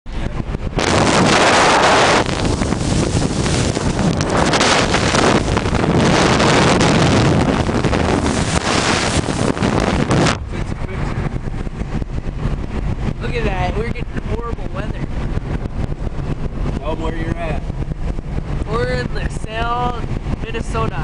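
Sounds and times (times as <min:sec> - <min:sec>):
low rumble: 0:00.1 - 0:21.0
storm wind buffeting microphone: 0:00.1 - 0:21.0.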